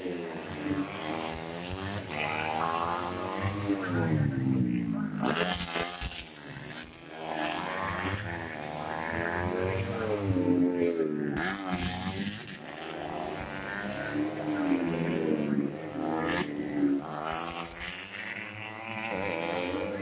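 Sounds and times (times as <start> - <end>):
motorcycle engines revving through corner: 0.0 - 20.0.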